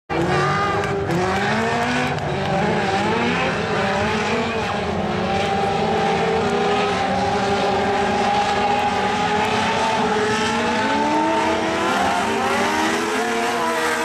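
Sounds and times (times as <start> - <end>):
race car engines revving high: 0.1 - 14.0.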